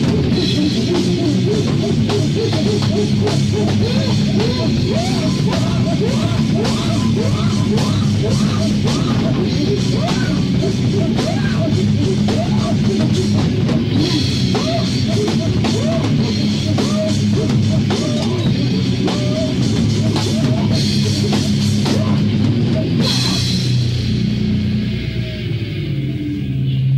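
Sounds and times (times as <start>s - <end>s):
distorted guitar and bass: 0.0s - 26.9s
fast chaotic drumming: 0.0s - 26.9s.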